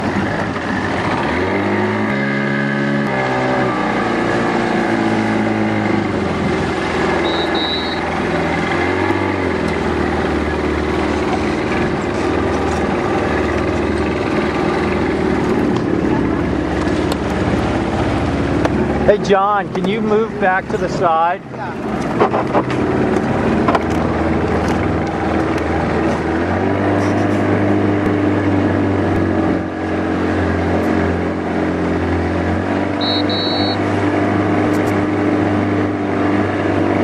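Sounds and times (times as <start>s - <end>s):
motorboat engine running: 0.0s - 37.0s.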